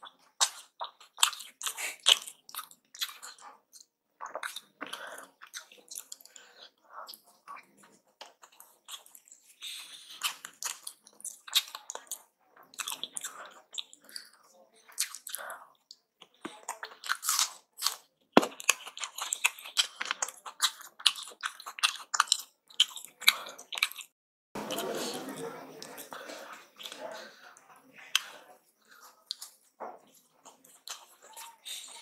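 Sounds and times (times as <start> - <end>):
chewing and crunching: 0.0 - 32.0.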